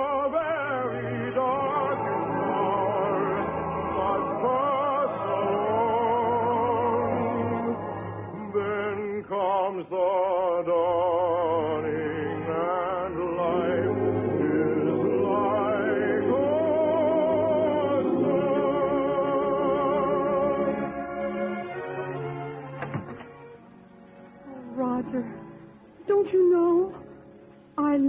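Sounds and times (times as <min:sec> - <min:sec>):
orchestral operetta music: 0:00.0 - 0:28.0.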